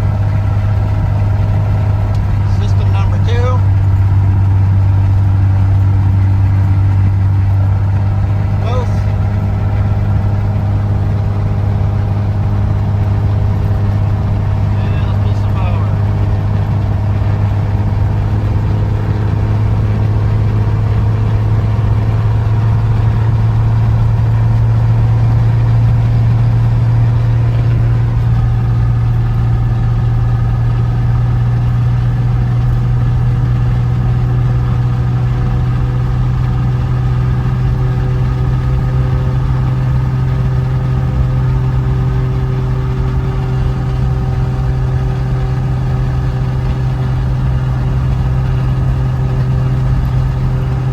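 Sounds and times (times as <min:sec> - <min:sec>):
aircraft piston engine running: 0:00.0 - 0:50.9.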